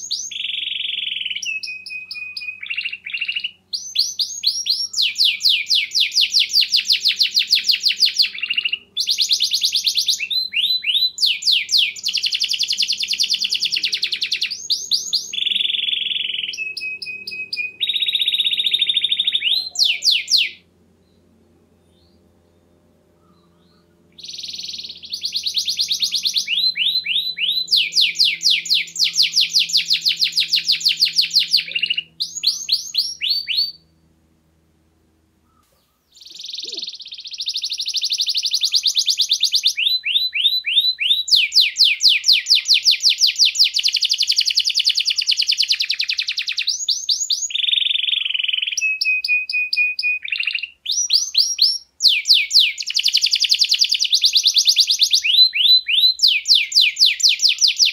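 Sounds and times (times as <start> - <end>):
canary singing rapid trills: 0.0 - 20.6, 21.9 - 33.9, 35.5 - 57.9.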